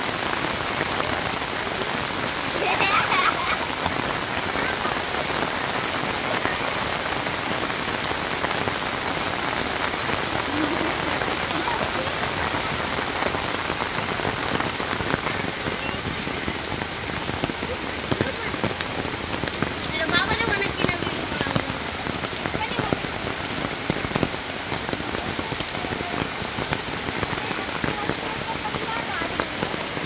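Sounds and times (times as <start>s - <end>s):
heavy rain on water: 0.0s - 30.0s.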